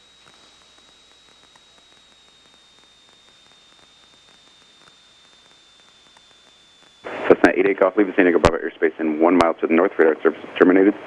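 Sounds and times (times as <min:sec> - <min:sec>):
faint radio crackles: 0:00.0 - 0:11.0
high-pitched radio whine: 0:00.0 - 0:11.0
static hiss: 0:00.0 - 0:11.0.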